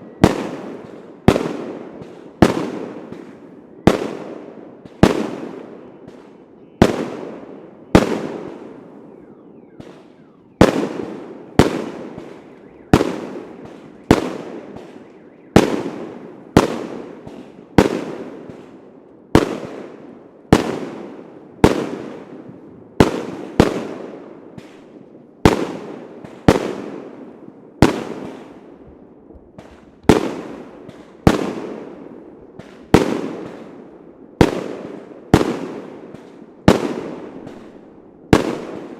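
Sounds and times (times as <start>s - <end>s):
fireworks bangs with rumbling echo: 0.0s - 8.8s, 9.8s - 38.9s.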